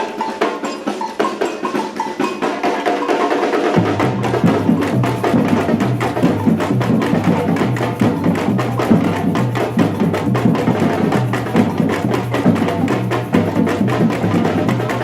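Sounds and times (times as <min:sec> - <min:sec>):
samba drum group playing: 0:00.0 - 0:15.0.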